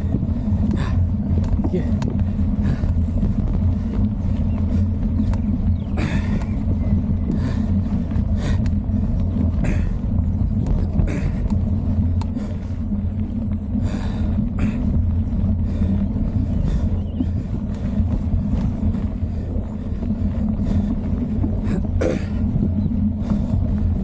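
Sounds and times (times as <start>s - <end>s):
bike rattling over bumps: 0.0s - 24.0s
bike tyres rolling on dirt: 0.0s - 24.0s
wind buffeting microphone: 0.0s - 24.0s.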